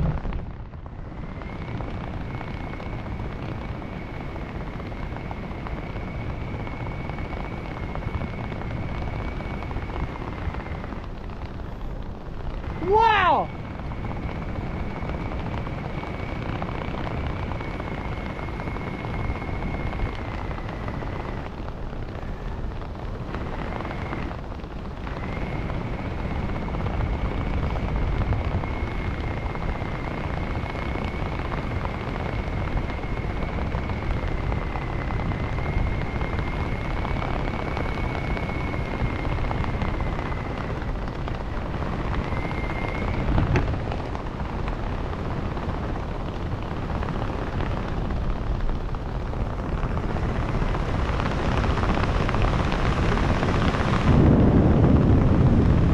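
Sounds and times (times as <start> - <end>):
helicopter rumble: 0.0 - 55.9
high turbine whine: 0.0 - 55.9.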